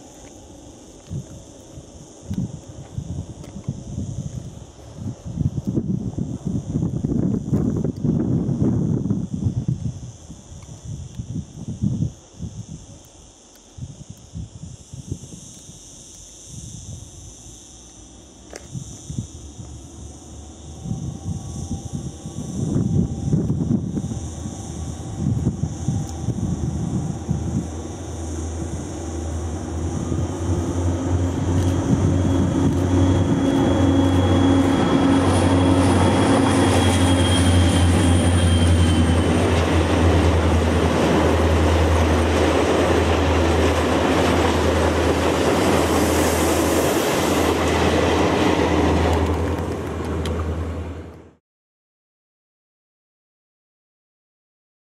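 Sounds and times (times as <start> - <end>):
diesel locomotive engine drone: 0.0 - 51.4
thin high whine: 0.0 - 51.4.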